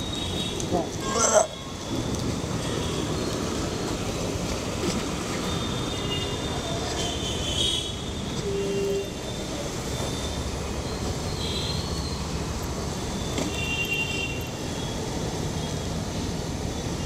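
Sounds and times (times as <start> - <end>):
street noise rumble: 0.0 - 17.0.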